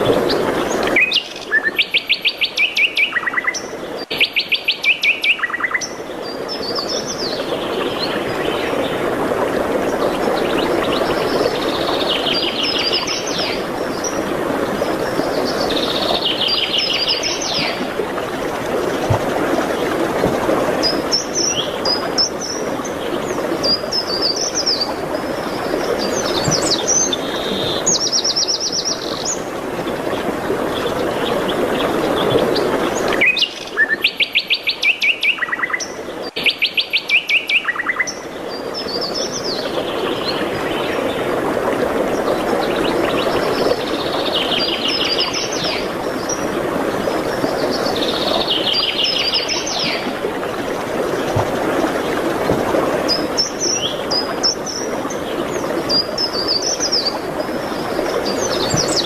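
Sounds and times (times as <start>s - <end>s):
songbirds singing: 0.0s - 9.1s, 9.8s - 18.3s, 19.1s - 41.3s, 42.1s - 59.0s.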